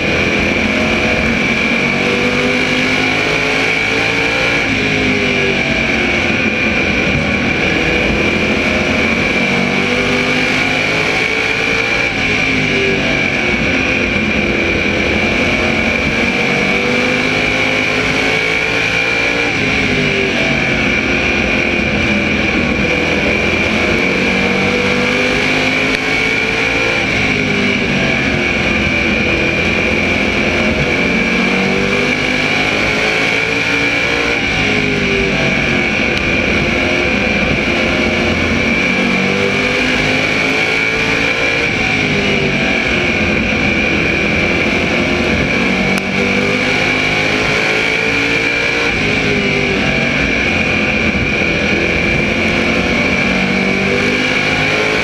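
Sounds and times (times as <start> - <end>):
high-pitched whine: 0.0 - 55.0
racing car engine at speed: 0.0 - 55.0.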